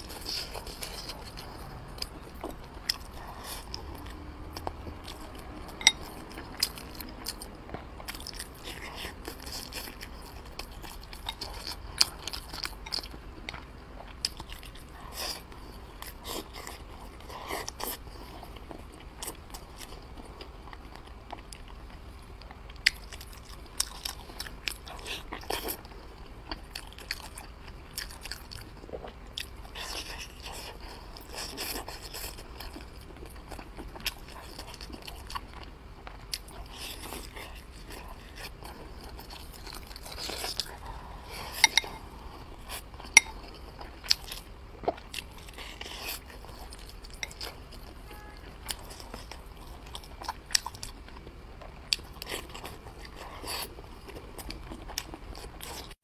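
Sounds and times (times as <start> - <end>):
biting and chewing food: 0.0 - 56.0.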